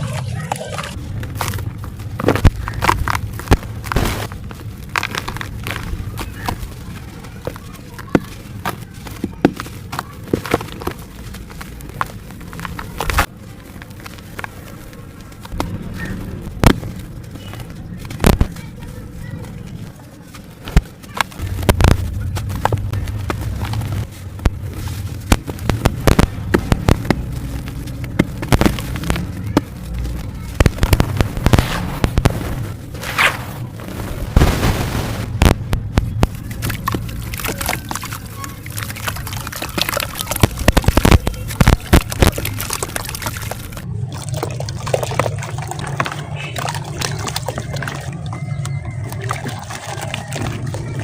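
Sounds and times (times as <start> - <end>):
dry chunks crushed and crumbling: 0.0 - 51.0.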